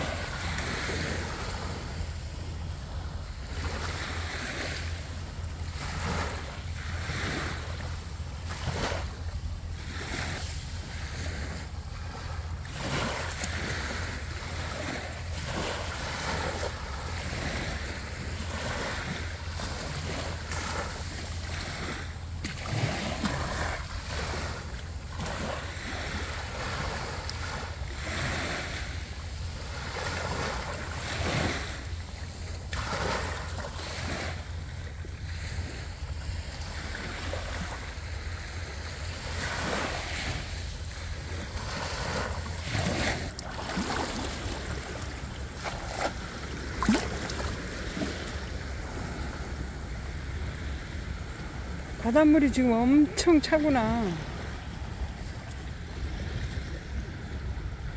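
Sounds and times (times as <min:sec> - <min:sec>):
waves washing over sand: 0:00.0 - 0:57.9
wind on microphone: 0:00.0 - 0:57.9.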